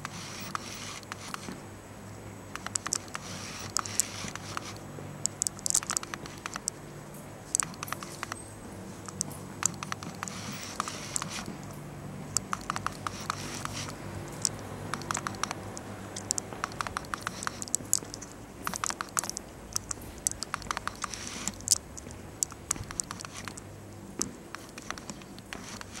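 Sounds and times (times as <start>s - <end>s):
faint low hum: 0.0s - 26.0s
light clicks and taps: 2.5s - 6.8s, 7.5s - 8.4s, 9.0s - 26.0s.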